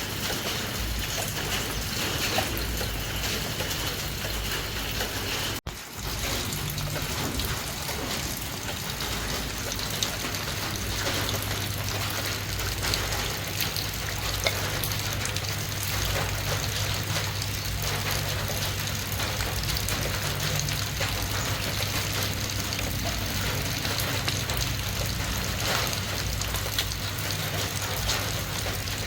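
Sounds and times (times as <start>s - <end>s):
steady water noise: 0.0s - 29.0s.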